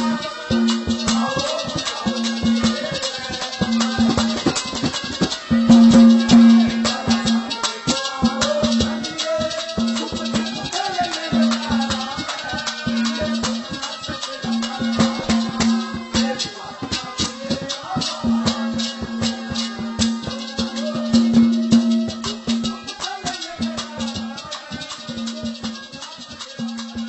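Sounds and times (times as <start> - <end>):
wavering melody line: 0.0 - 23.5
held drone note: 0.0 - 23.9
fast percussion with rattles: 0.0 - 27.0.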